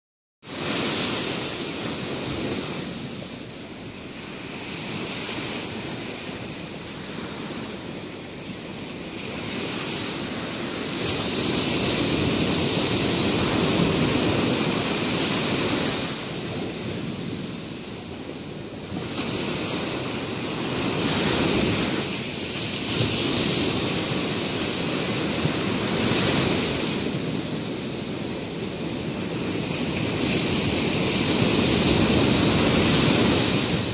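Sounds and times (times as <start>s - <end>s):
surf washing on beach: 0.4s - 33.9s.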